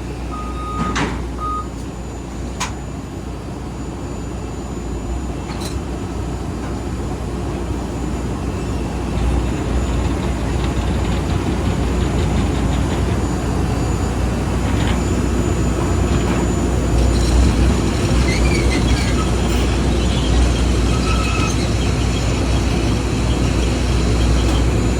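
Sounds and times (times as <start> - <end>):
airport ramp machinery rumble: 0.0 - 24.9.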